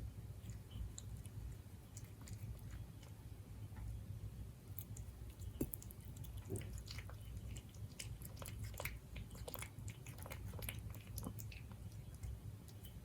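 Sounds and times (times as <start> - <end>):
cat chewing food: 0.0 - 13.0.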